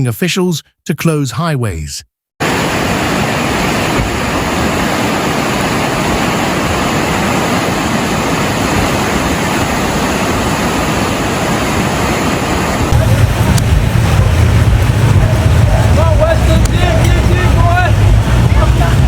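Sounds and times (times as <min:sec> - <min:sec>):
water rushing: 0:02.4 - 0:19.0.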